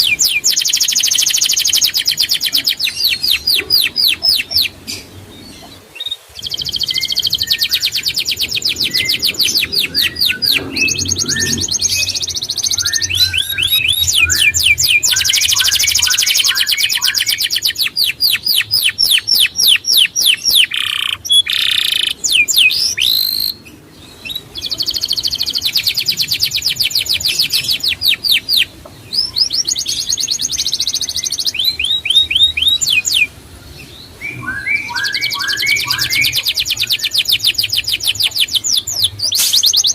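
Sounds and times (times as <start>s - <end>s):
songbird singing fast trills: 0.0s - 33.3s, 34.1s - 39.9s.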